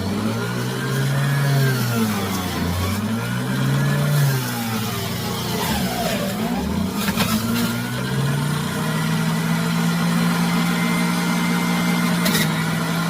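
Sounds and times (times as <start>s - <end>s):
juicer motor humming: 0.0s - 13.0s.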